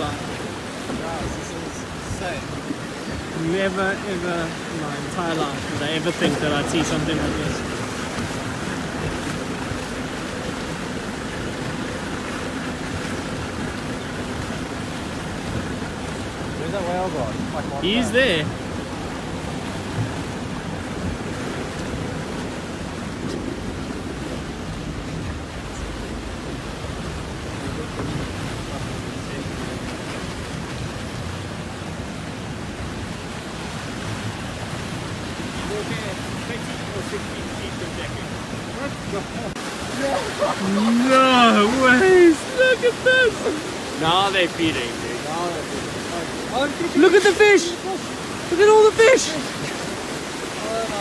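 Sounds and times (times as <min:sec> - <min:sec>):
choppy sea water: 0:00.0 - 0:51.0.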